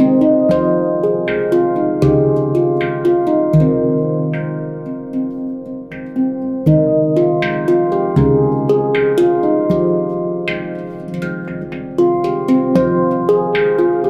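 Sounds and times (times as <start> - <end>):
deep bass handpan strikes: 0.0 - 14.0
finger taps on handpan: 0.0 - 14.0
handpan ringing notes: 0.0 - 14.0.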